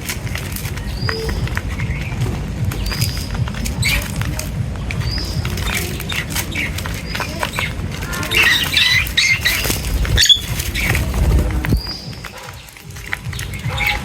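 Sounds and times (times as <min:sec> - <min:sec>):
low rumble: 0:00.0 - 0:12.3
birds chirping and squawking: 0:00.0 - 0:14.0.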